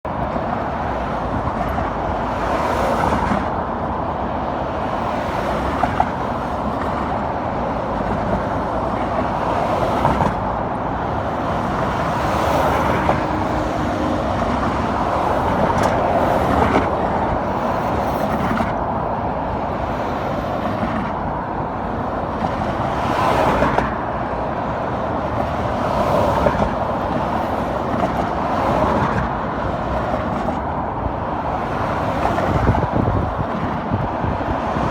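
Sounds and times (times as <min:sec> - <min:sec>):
road traffic rush: 0:00.0 - 0:34.9.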